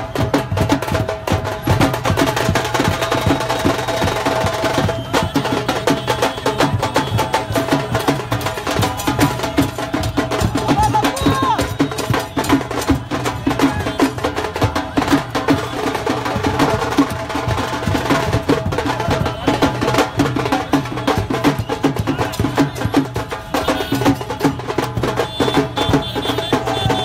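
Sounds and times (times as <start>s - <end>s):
rapid drum strokes: 0.0s - 27.0s.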